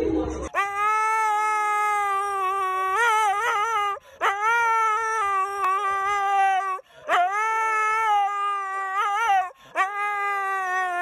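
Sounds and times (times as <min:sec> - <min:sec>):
husky howling: 0:00.5 - 0:11.0.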